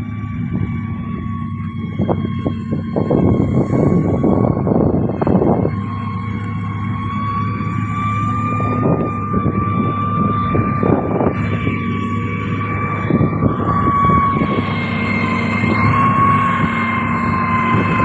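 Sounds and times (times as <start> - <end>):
diesel engine drone: 0.0 - 18.0
high-pitched whine: 0.0 - 18.0.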